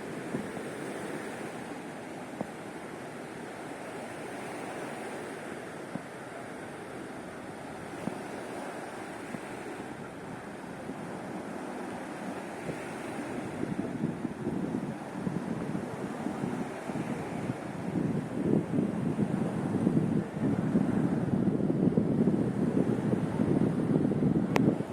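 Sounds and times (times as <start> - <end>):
surf washing onto shore: 0.0 - 24.9.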